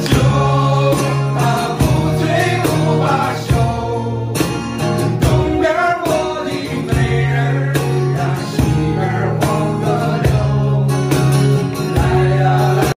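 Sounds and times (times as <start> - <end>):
song with sung vocals: 0.0 - 12.9
sustained bass: 0.0 - 12.9.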